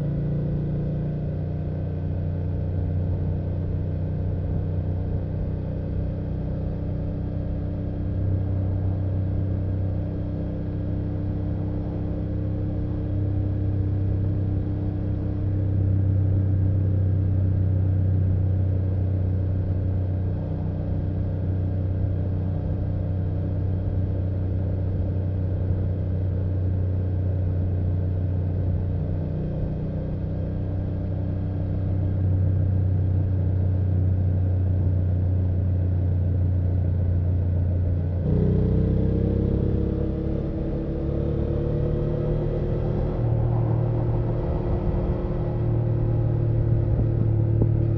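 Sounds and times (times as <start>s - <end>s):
motorcycle engine cruising and accelerating: 0.0s - 47.9s.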